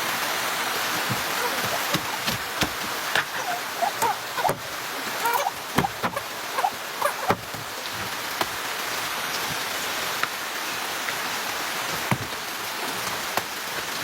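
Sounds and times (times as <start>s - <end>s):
rain falling: 0.0s - 14.0s
water splashes and knocks: 0.0s - 14.0s.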